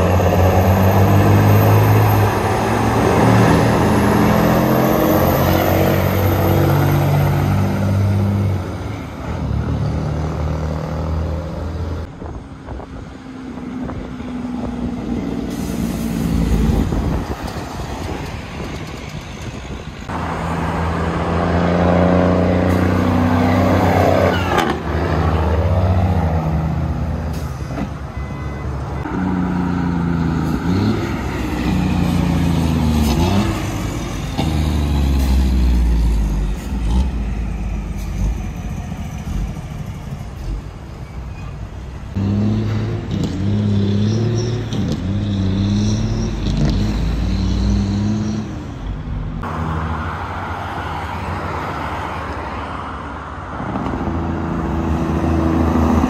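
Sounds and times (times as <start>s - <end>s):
cars passing: 0.0s - 41.0s, 41.6s - 56.0s
trucks driving past: 0.0s - 56.0s.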